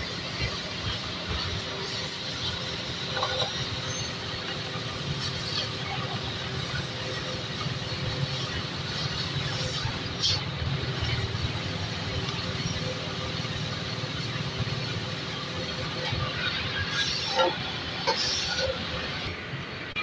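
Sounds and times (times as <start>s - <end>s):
cutting torch hissing: 0.0s - 20.0s.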